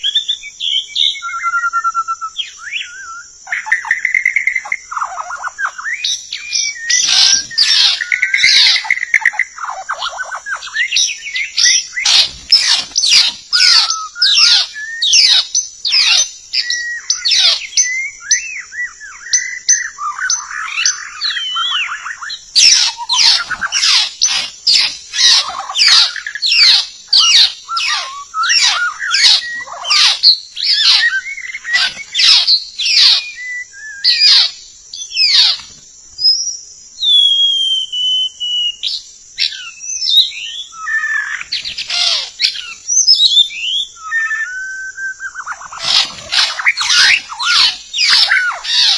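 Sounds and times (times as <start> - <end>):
bird singing whistles and trills: 0.0 - 48.9.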